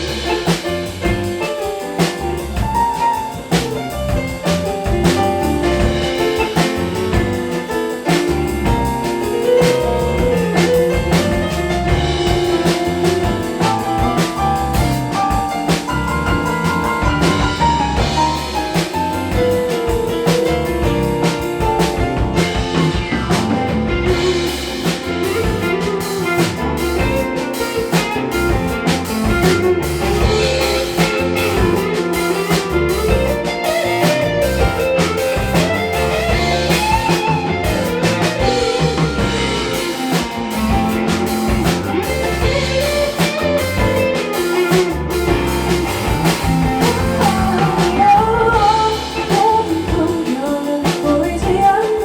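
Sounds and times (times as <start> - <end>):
guitar lead melody: 0.0 - 50.8
bass guitar: 0.0 - 52.0
drum kit beat: 0.0 - 52.0.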